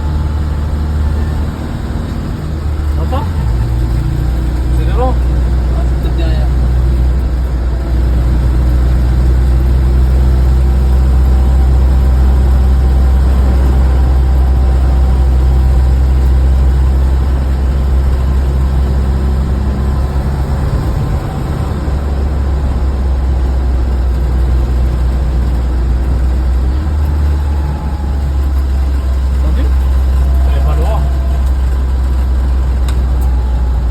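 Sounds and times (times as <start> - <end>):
car engine droning: 0.0 - 33.9.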